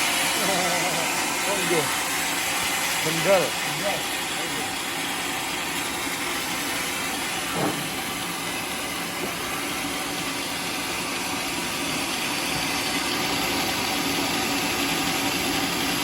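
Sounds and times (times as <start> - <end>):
sawmill engine humming: 0.0 - 16.0.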